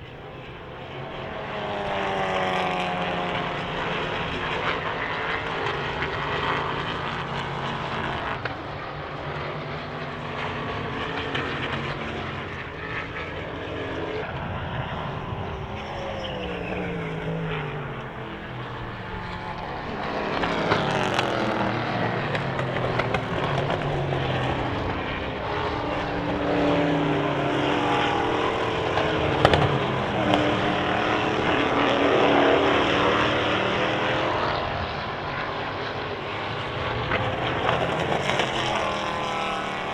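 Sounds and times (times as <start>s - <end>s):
racing cars passing at speed: 0.0s - 39.9s.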